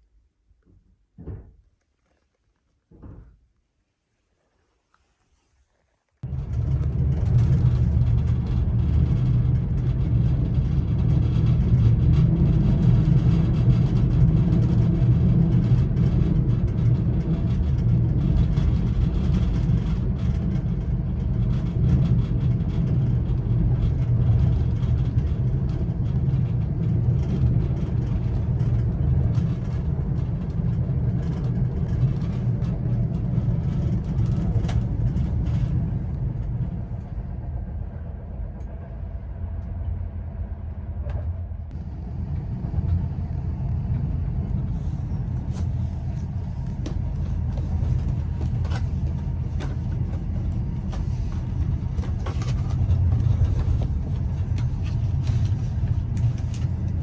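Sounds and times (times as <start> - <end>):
train wheels rumbling on rails: 6.2 - 57.0.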